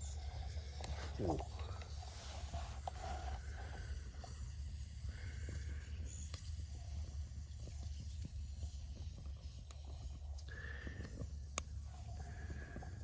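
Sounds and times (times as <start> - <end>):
campfire crackling: 0.2 - 13.0.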